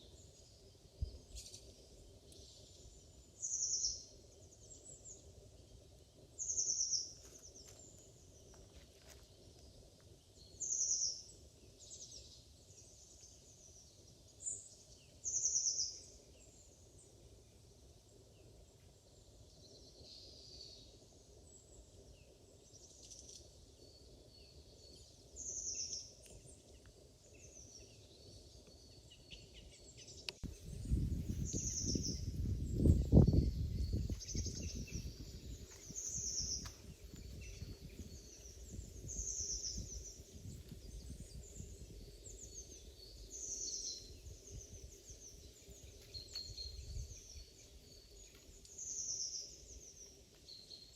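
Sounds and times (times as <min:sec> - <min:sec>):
songbird calling: 0:00.0 - 0:08.6, 0:10.4 - 0:17.1, 0:19.6 - 0:50.9.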